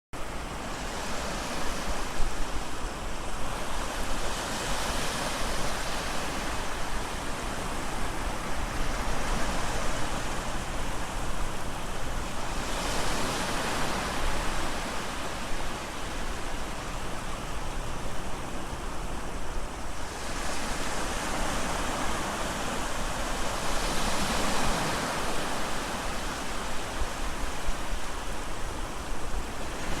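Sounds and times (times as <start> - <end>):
waves breaking on shore: 0.2 - 30.0.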